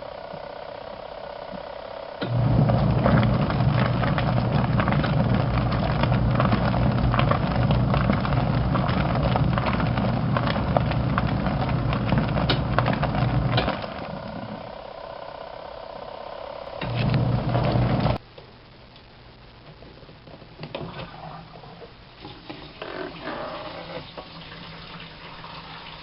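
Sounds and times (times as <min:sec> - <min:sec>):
washing machine motor hum: 0:00.0 - 0:18.2, 0:20.5 - 0:26.0.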